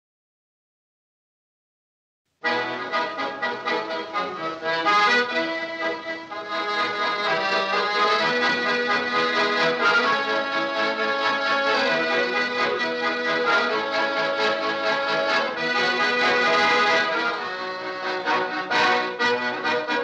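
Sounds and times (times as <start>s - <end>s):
accordion music: 2.4s - 20.0s.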